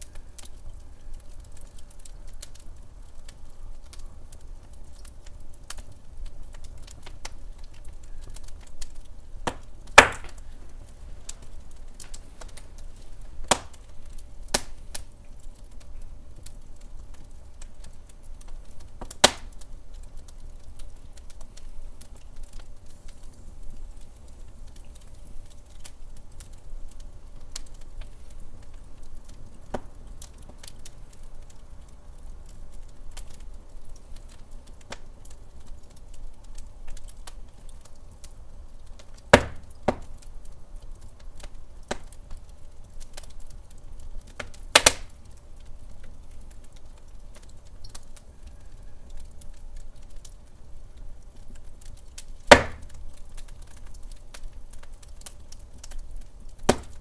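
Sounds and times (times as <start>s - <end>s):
loud fire pops: 0.0s - 38.2s, 38.8s - 48.2s, 51.3s - 57.0s
low fire rumble: 0.0s - 57.0s
wood fire crackling: 0.0s - 57.0s.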